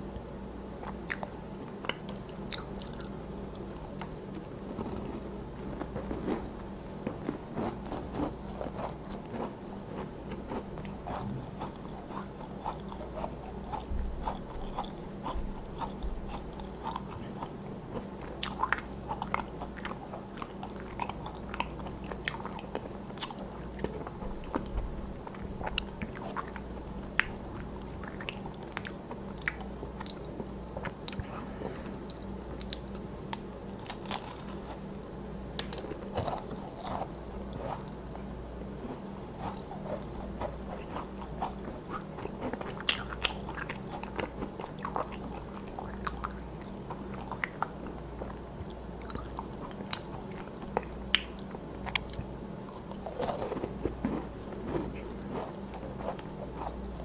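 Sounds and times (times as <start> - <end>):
steady low hum: 0.0 - 57.0
crunching of macaron shells: 0.8 - 38.2, 38.8 - 57.0
soft chewing: 0.8 - 57.0.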